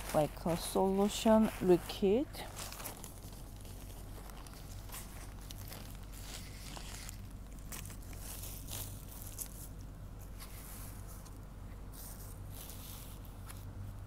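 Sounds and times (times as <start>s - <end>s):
drape rustling and crinkling: 0.0s - 14.0s.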